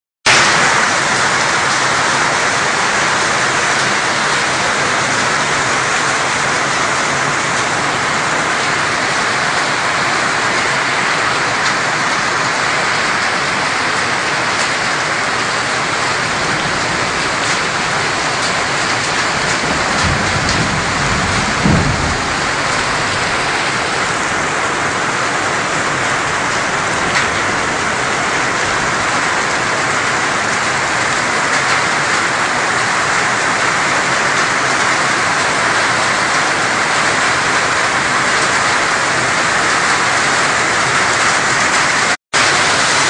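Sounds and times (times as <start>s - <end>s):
heavy rain pouring: 0.3s - 43.0s.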